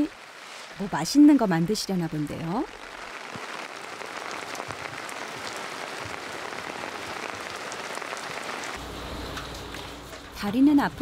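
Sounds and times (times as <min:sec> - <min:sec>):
steady rain: 0:00.0 - 0:10.4.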